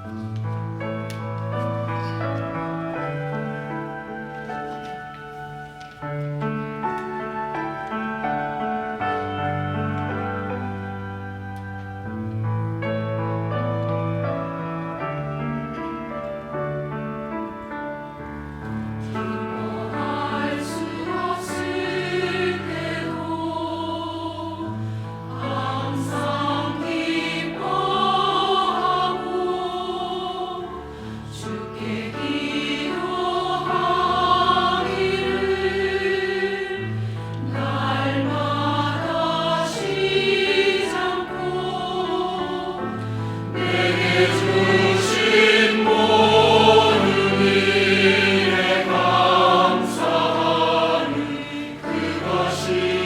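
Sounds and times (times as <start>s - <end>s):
choir singing in harmony: 0.0s - 12.2s, 12.8s - 53.0s.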